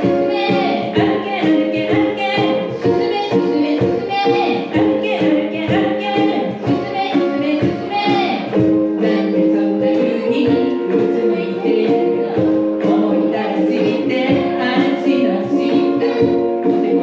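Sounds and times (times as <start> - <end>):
people singing together: 0.0 - 17.0
ukuleles strummed: 0.0 - 17.0.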